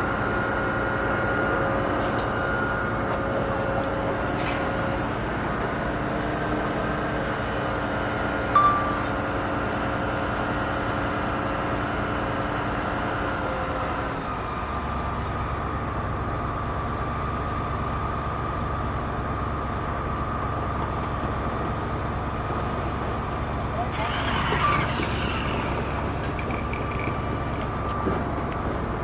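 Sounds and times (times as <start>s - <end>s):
heavy machinery engine running: 0.0s - 29.0s.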